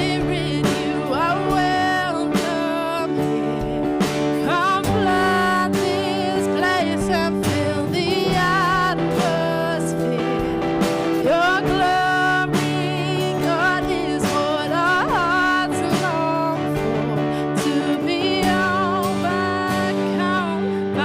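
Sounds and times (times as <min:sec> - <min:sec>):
band playing worship music: 0:00.0 - 0:21.0
person singing: 0:00.0 - 0:21.0.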